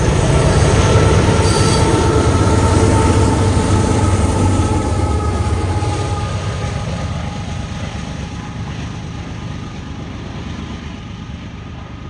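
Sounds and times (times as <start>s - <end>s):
diesel locomotives rumbling: 0.0s - 12.0s.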